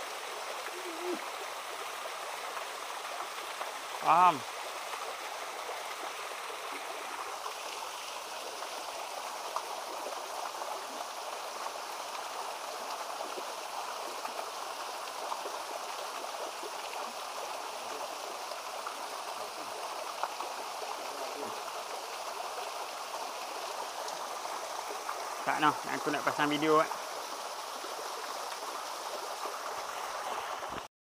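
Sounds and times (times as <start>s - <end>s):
stream running: 0.0s - 30.9s.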